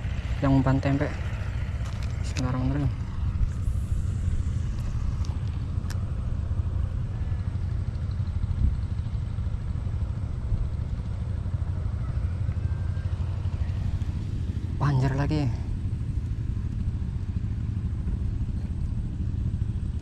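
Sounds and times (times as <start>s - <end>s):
wind buffeting microphone: 1.2s - 20.0s.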